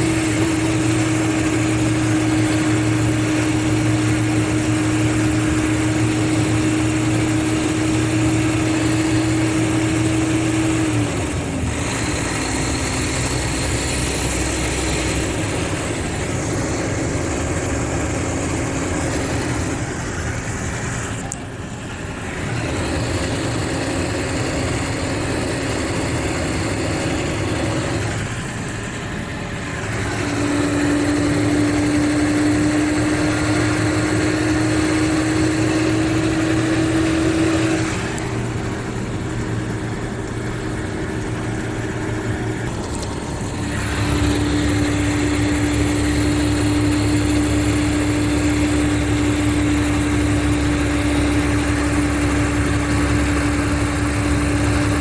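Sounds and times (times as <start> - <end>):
diesel engine pulling under load: 0.0 - 55.0.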